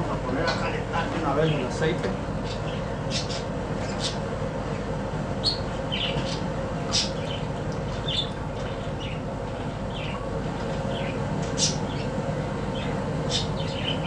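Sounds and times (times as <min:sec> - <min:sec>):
steady low hum: 0:00.0 - 0:14.0
small birds chirping: 0:00.4 - 0:14.0.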